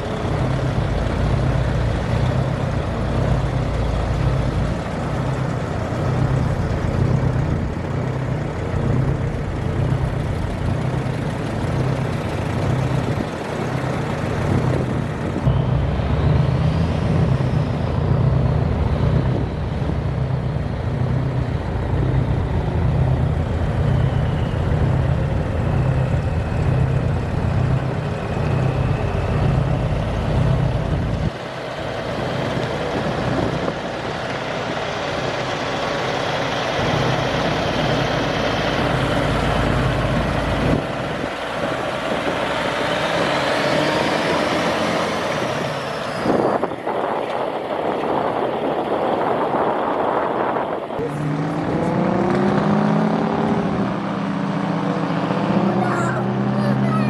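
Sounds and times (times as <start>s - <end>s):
diesel truck engine throbbing: 0.0s - 57.0s.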